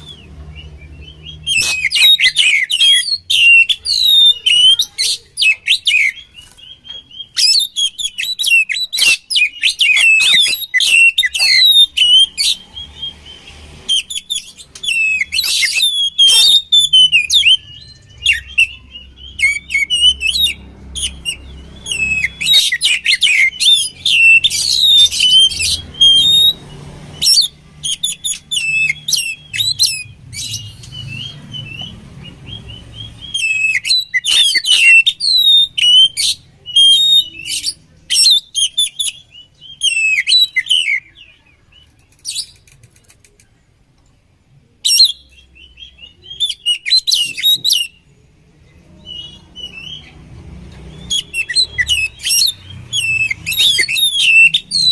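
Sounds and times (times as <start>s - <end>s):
bird singing chirps and whistles: 0.0s - 42.6s, 44.8s - 48.2s, 49.0s - 54.9s.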